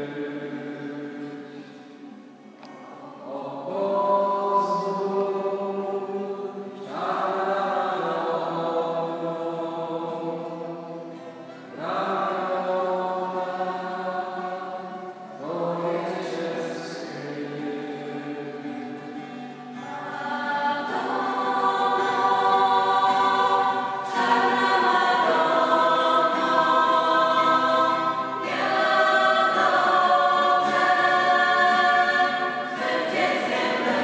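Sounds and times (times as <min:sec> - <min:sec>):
group singing a hymn: 0:00.0 - 0:34.0.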